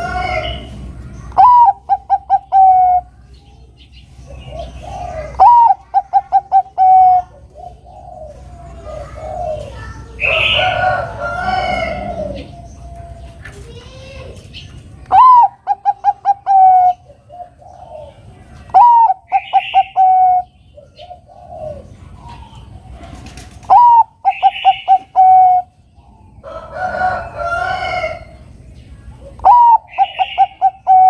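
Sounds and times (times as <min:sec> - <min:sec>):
dove cooing song: 0:00.0 - 0:03.4, 0:04.0 - 0:13.8, 0:14.5 - 0:31.0.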